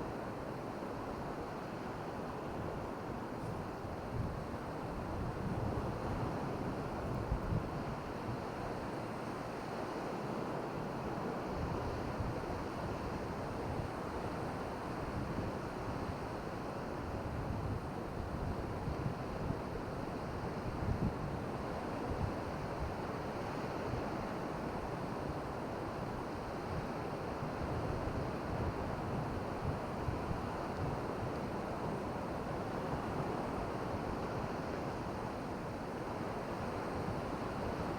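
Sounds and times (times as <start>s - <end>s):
surf washing on a beach: 0.0s - 37.9s.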